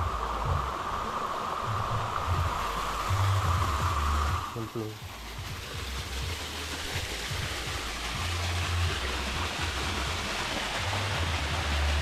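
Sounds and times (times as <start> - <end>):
low rumbles: 0.0 - 12.0
waterfall rushing water: 0.0 - 12.0.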